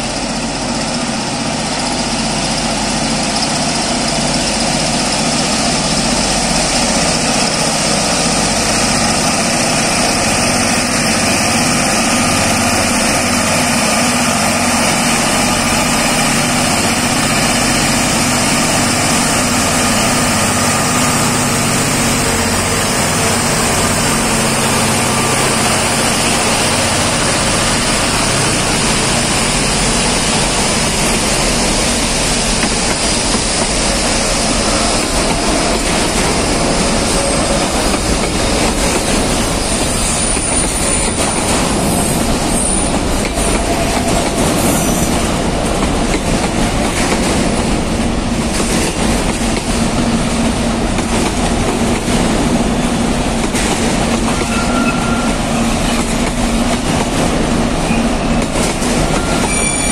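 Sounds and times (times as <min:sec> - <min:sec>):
diesel locomotive engines: 0:00.0 - 0:59.9.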